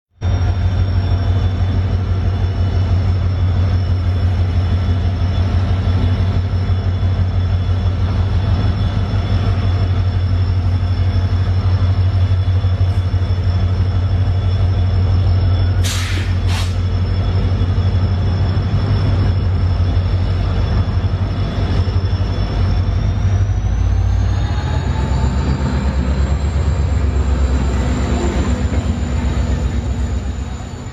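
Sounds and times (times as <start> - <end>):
high whine of train: 0.1 - 30.9
train rumbling: 0.1 - 30.9.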